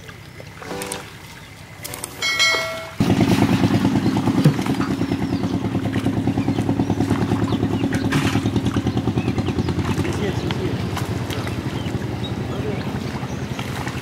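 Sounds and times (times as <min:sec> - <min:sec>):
small engine running: 0:01.9 - 0:14.0.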